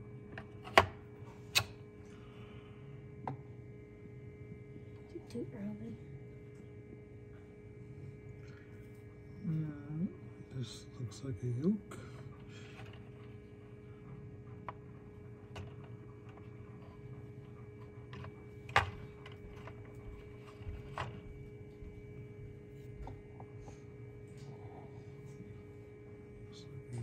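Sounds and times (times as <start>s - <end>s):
incubator electrical hum: 0.0s - 27.0s.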